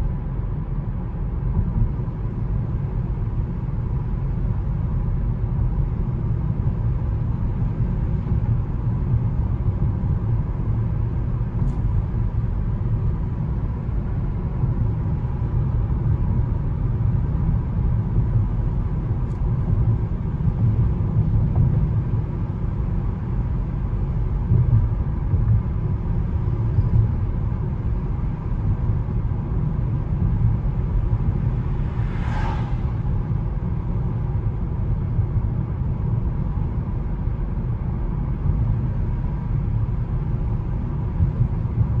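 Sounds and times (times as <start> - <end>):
road and tyre noise: 0.0 - 42.0.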